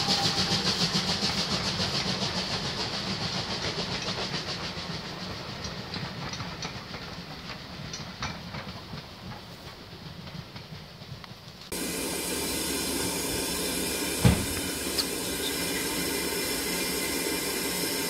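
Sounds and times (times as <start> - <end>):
steam train clatter: 0.0 - 18.0.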